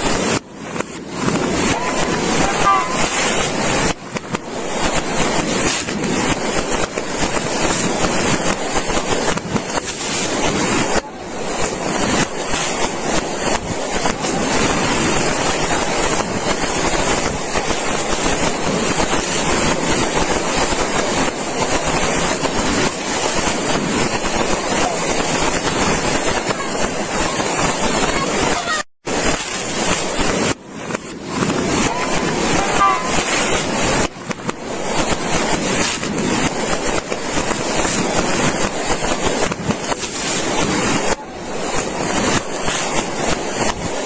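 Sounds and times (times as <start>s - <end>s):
firecrackers crackling: 0.0s - 44.0s.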